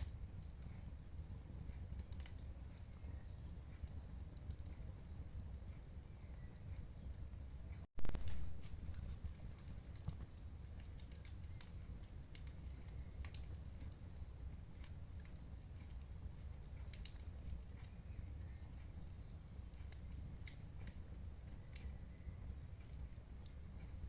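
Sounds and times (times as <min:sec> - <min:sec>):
fire crackling in a fireplace: 0:00.0 - 0:24.0.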